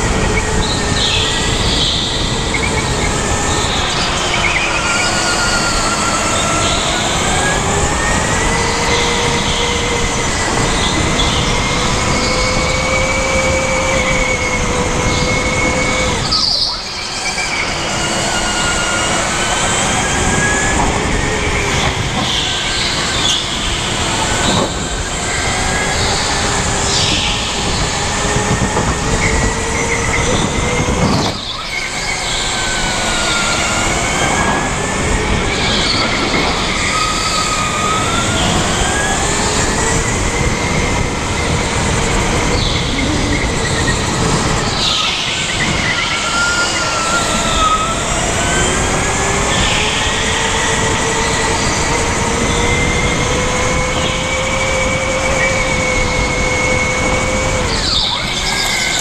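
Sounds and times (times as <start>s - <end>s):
electric go-kart motor whine: 0.0s - 59.0s.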